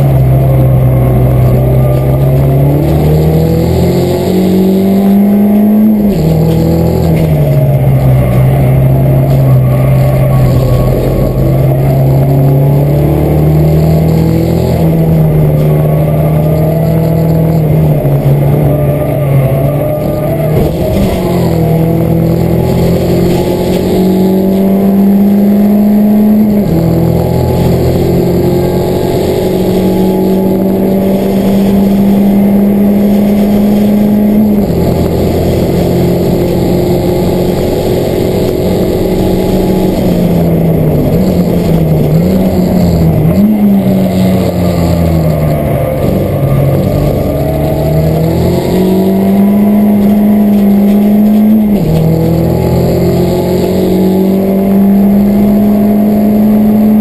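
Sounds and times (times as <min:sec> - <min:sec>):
race car engine from inside cabin: 0:00.0 - 0:57.0.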